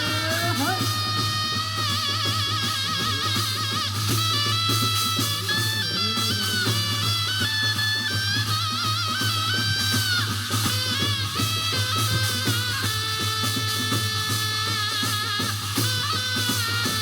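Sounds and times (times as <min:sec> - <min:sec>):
steady drumming and percussion: 0:00.0 - 0:17.0.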